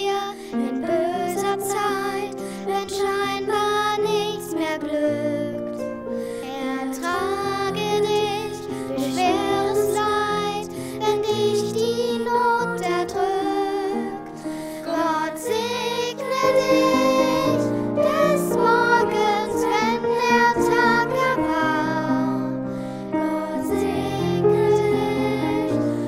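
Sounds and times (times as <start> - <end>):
children singing with accompaniment: 0.0 - 26.0.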